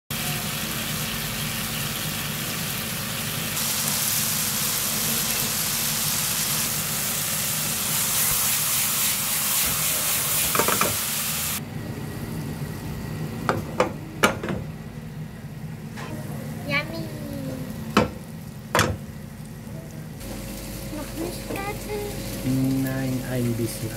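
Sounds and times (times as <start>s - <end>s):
food sizzling in a frying pan: 0.1s - 11.6s, 16.1s - 23.9s.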